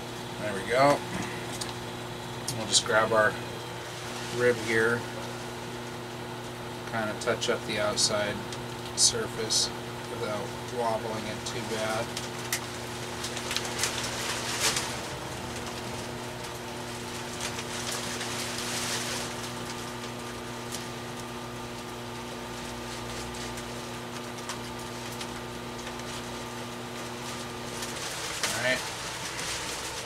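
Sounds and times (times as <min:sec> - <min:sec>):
potter's wheel motor hum: 0:00.0 - 0:30.0.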